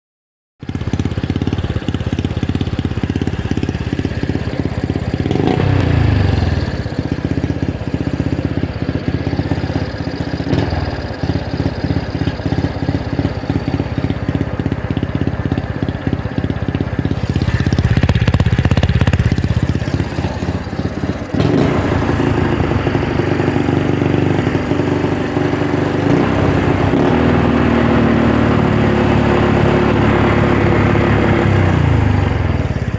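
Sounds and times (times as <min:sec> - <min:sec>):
loud motorcycle engine revving: 0:00.6 - 0:32.9.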